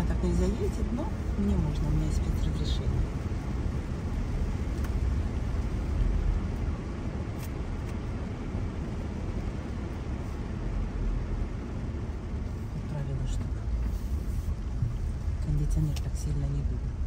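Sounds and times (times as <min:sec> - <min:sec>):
engine and tyres rumbling: 0:00.0 - 0:17.0.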